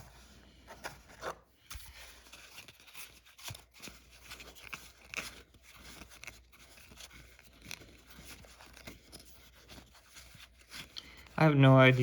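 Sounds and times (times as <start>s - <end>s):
trading cards rustling: 0.0s - 12.0s.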